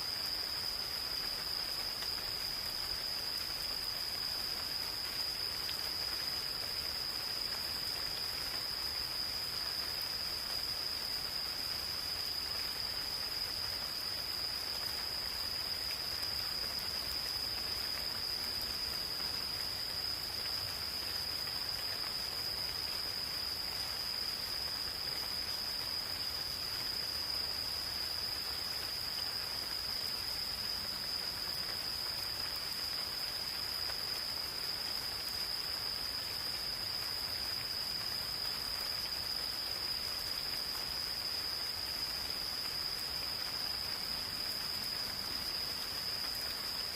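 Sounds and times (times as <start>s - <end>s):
gentle rain falling: 0.0s - 46.9s.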